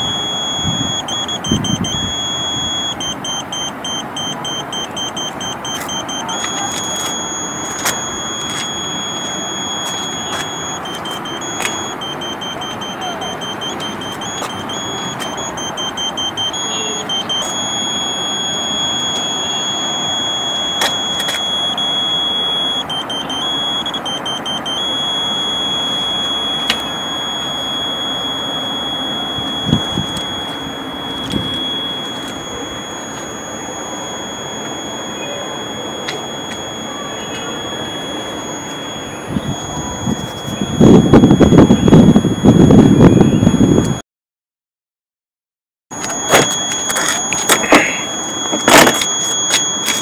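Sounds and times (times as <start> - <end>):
high-pitched buzzer tone: 0.0 - 44.0, 46.0 - 50.0.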